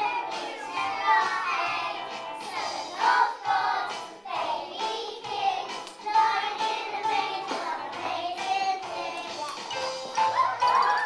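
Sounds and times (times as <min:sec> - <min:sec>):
children singing: 0:00.0 - 0:11.0
musical accompaniment: 0:00.0 - 0:11.0.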